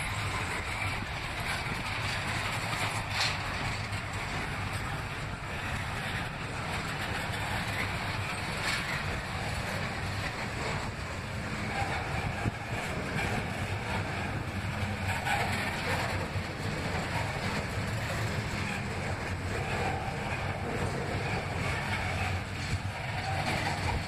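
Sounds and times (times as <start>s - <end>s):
train wheels on track: 0.0s - 24.0s.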